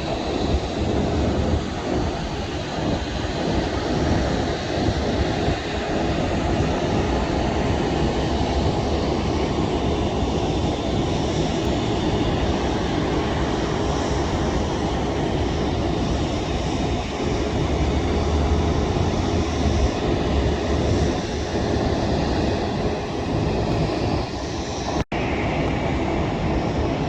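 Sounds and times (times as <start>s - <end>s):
jet airliner engine rumble: 0.0s - 27.0s.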